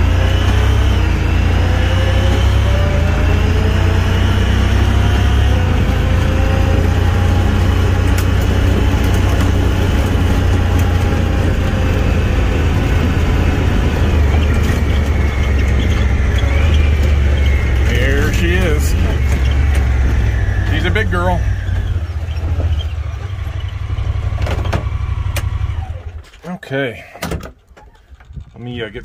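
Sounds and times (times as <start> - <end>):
engine and tyre rumble: 0.0 - 29.0.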